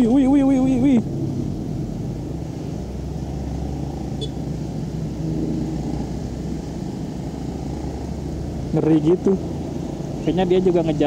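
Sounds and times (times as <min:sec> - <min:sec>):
motorcycle engine hum: 0:00.0 - 0:11.0.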